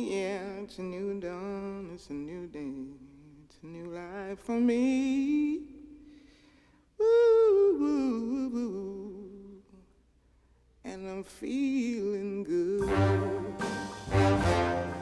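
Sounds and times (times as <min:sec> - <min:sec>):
solo voice singing: 0:00.0 - 0:06.1, 0:07.0 - 0:09.9, 0:10.9 - 0:15.0.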